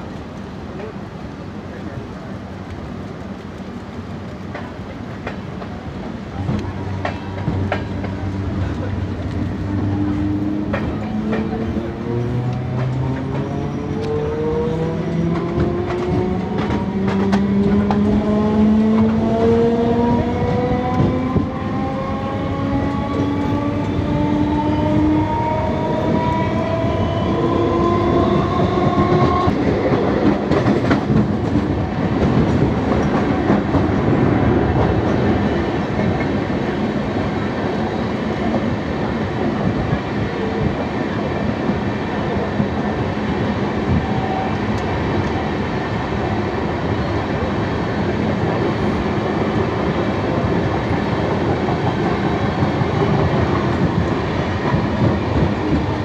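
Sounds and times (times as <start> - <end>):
passing train rush: 0.0 - 56.0
wheel-on-rail rumble and clatter: 0.0 - 56.0.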